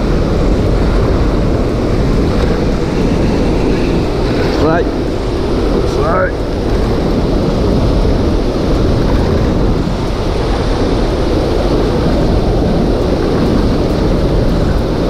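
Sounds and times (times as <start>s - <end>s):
water roaring from spillway: 0.0s - 15.0s
wind buffeting microphone: 0.0s - 15.0s.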